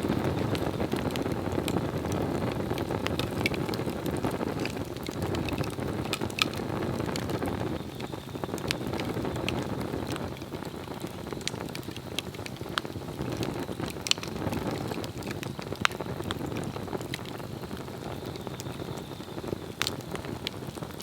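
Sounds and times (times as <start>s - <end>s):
fire crackles and pops: 0.0s - 21.0s
flame rushing: 0.0s - 21.0s.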